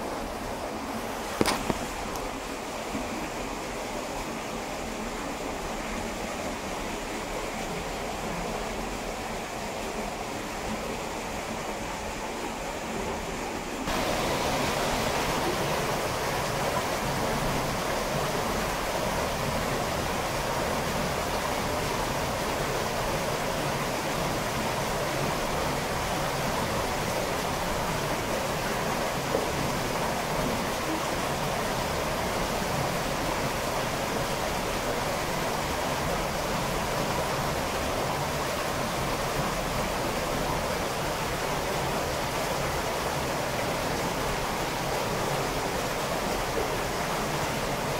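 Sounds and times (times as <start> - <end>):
stream rushing through rock passage: 0.0 - 47.9.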